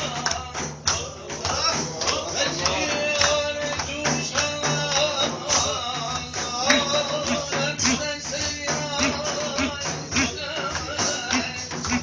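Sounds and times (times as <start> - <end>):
hand percussion beat: 0.0 - 12.0.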